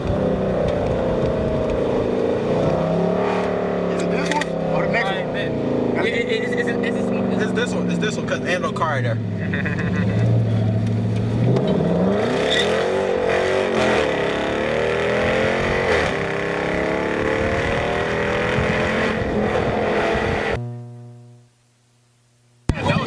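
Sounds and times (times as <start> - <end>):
car engine revving: 0.0 - 21.4, 22.7 - 23.0.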